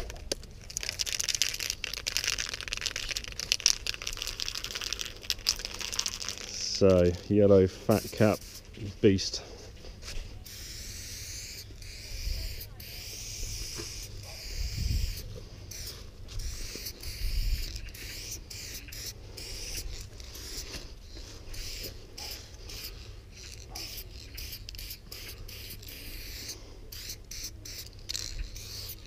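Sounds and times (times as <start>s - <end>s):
spray can hissing: 0.3s - 7.1s, 7.8s - 9.2s, 10.4s - 29.0s.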